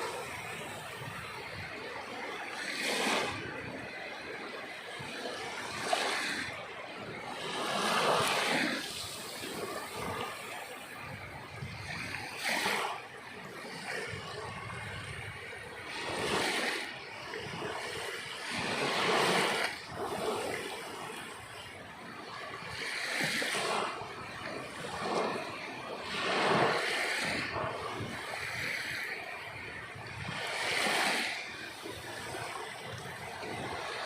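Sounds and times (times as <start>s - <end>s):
sea waves breaking on shore: 0.0s - 34.0s.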